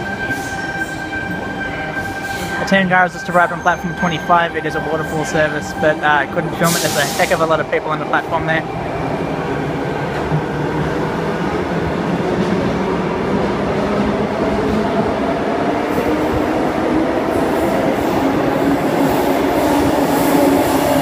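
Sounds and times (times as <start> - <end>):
train wheel-on-rail rumble: 0.0 - 21.0.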